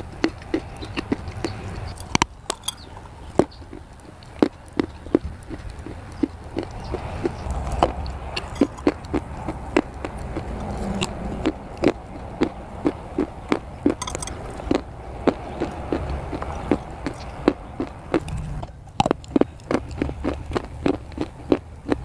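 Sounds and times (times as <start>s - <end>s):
chewing clay crunches: 0.0s - 22.0s.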